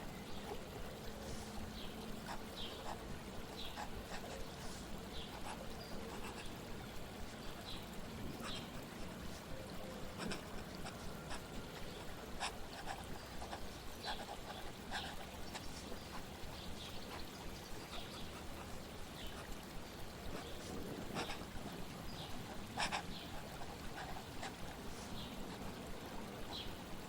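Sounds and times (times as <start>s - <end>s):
flowing water: 0.0s - 27.0s.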